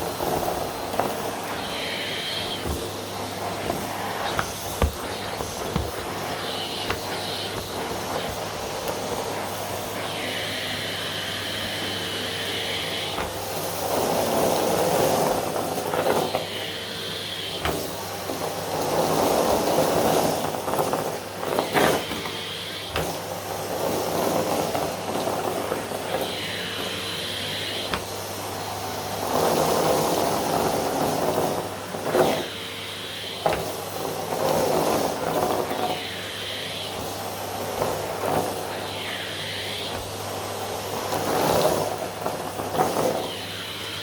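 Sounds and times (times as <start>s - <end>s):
vacuum cleaner on carpet: 0.0s - 44.0s.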